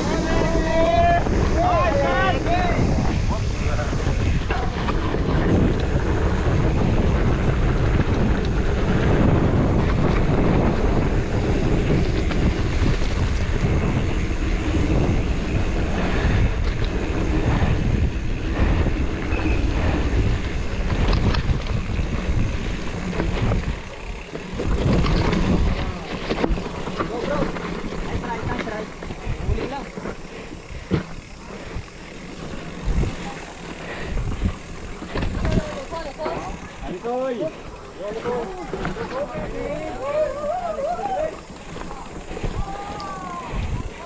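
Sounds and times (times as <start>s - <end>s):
bike frame and chain rattle: 0.0s - 44.0s
bike tyre noise on dirt: 0.0s - 44.0s
wind buffeting microphone: 0.0s - 44.0s.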